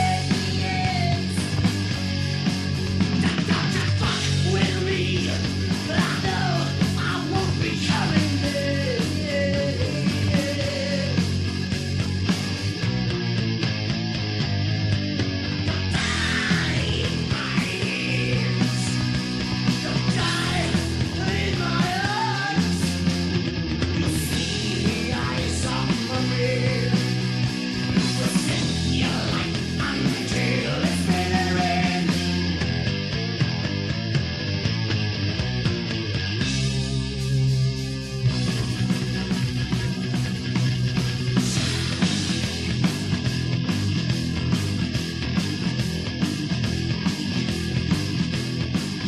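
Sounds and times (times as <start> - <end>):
bass chords: 0.0 - 49.0
distorted guitars: 0.0 - 49.0
drums: 0.0 - 49.0
high lead guitar line bending: 0.0 - 49.0.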